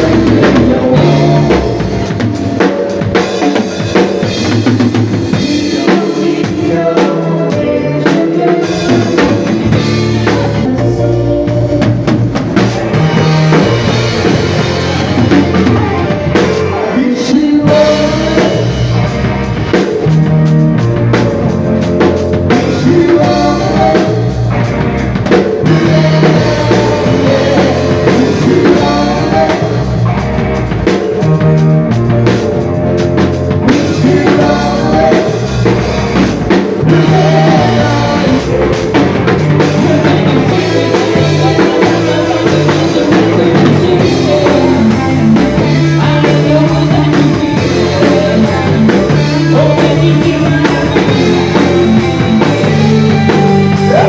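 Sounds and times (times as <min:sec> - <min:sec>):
person singing: 0:00.0 - 0:02.9, 0:05.2 - 0:19.2, 0:21.0 - 0:24.7, 0:25.4 - 0:30.4, 0:33.6 - 0:54.0
drumming with cymbals: 0:00.0 - 0:54.0
live band playing: 0:00.0 - 0:54.0.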